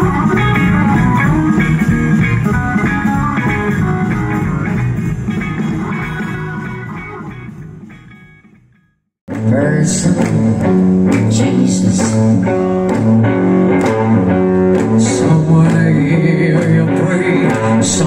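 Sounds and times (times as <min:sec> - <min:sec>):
bass and drums: 0:00.0 - 0:18.0
blues band playing: 0:00.0 - 0:18.0
electric guitar: 0:00.0 - 0:18.0.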